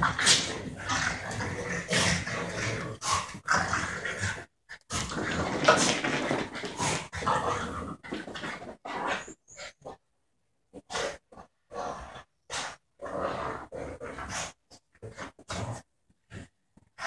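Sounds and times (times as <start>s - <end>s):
dogs playing rough: 0.0s - 10.0s, 10.7s - 17.0s.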